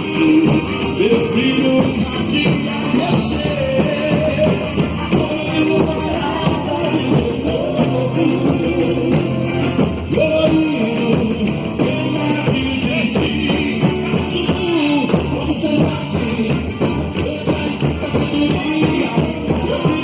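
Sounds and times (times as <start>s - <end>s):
drums and percussion rhythm: 0.0s - 20.0s
person singing: 0.0s - 20.0s.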